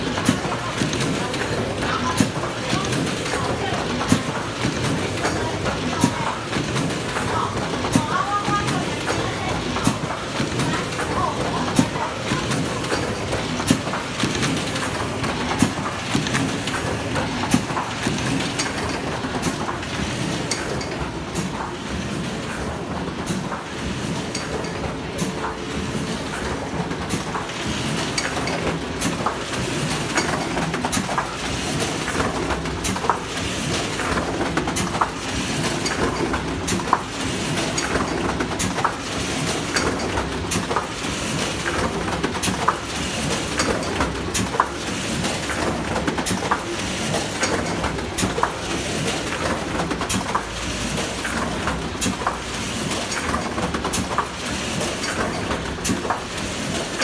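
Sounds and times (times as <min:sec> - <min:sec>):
paper press running: 0:00.0 - 0:57.0.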